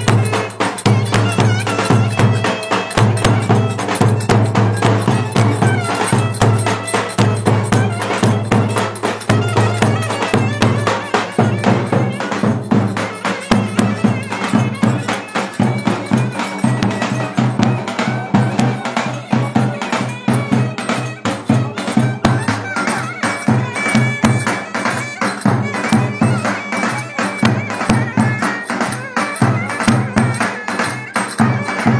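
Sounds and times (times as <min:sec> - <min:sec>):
clarinet playing ornamented melody: 0:00.0 - 0:31.9
fast percussion beats: 0:00.0 - 0:31.9.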